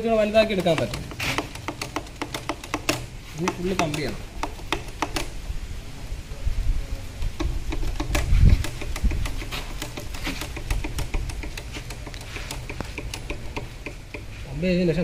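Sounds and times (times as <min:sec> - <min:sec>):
clicking and tapping on parts: 0:00.0 - 0:05.4, 0:07.2 - 0:14.4.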